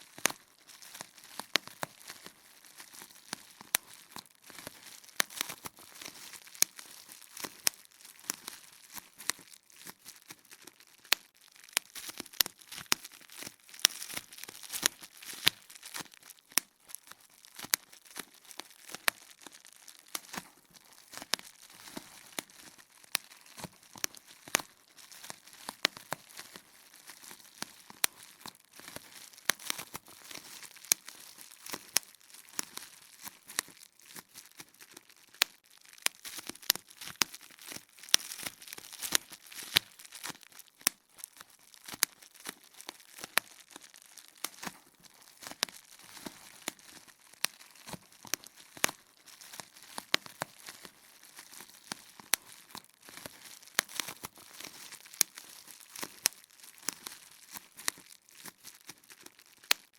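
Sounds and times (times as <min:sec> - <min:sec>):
bubble wrap popping: 0:00.0 - 0:59.9
plastic sheet crinkling: 0:00.0 - 0:59.9.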